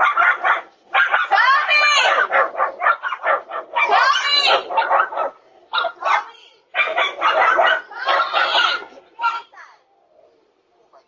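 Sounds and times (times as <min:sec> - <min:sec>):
dog barking excitedly: 0:00.0 - 0:09.5.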